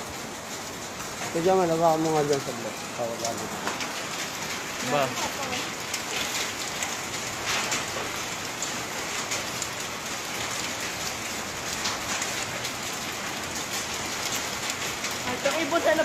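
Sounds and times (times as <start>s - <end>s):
muddy rain pattering: 0.0s - 16.0s.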